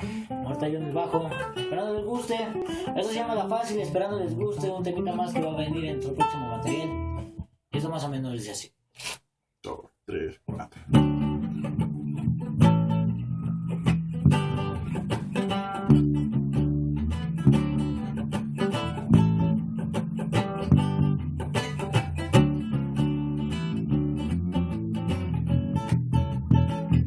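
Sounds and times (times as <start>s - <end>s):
strummed guitar chords: 0.0s - 7.4s, 10.8s - 27.0s
bass guitar notes: 0.0s - 7.5s, 10.4s - 27.0s.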